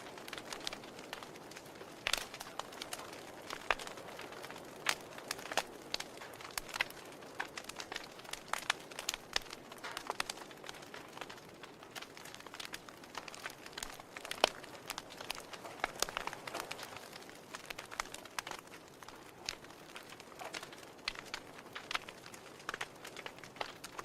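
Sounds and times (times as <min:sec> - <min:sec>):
soft steady hiss: 0:00.0 - 0:24.0
wood fire crackling: 0:00.0 - 0:24.0.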